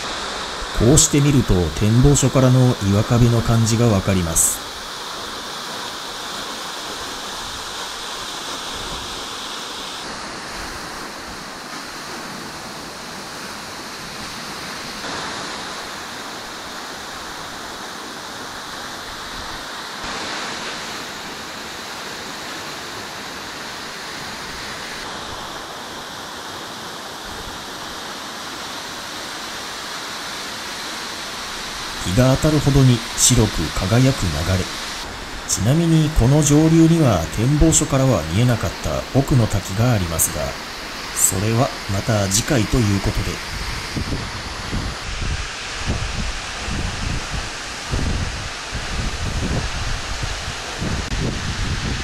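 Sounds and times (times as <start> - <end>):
waterfall rushing water: 0.0 - 52.0.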